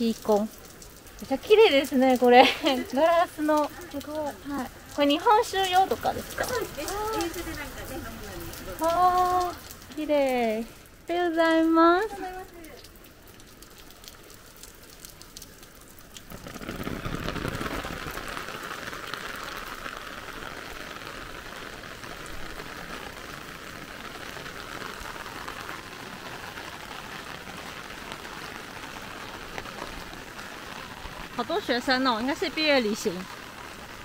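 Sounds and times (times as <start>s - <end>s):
heavy rain on an umbrella: 0.0s - 34.0s.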